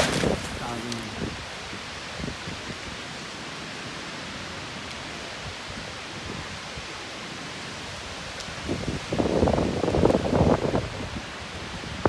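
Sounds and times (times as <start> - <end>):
wind rushing through trees: 0.0 - 12.0.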